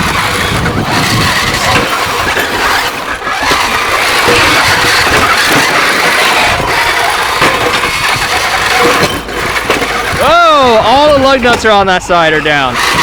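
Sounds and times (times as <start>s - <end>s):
robot motors running: 0.0s - 13.0s.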